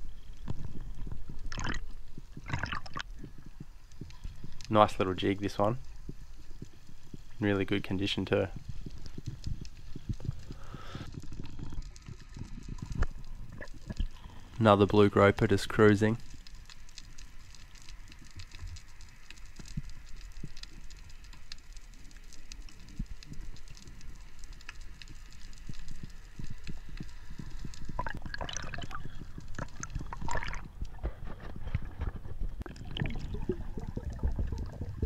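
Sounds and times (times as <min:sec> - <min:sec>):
underwater water rumble: 0:00.0 - 0:15.5, 0:16.2 - 0:35.0
bubbling: 0:00.0 - 0:35.0
small underwater clicks: 0:00.0 - 0:35.0.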